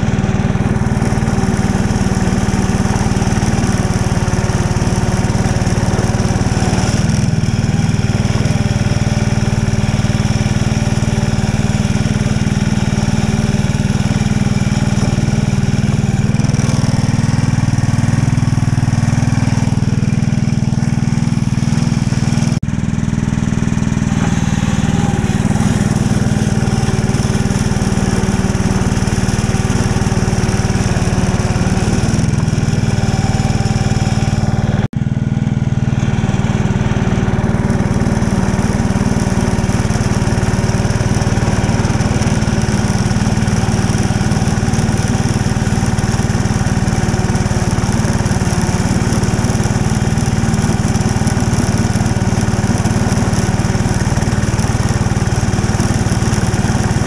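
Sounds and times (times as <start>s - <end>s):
small locomotive engine running: 0.0s - 57.0s.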